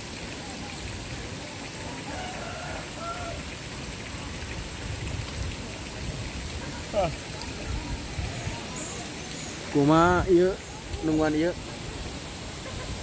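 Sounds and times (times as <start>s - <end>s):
rain-like background hiss: 0.0s - 13.0s.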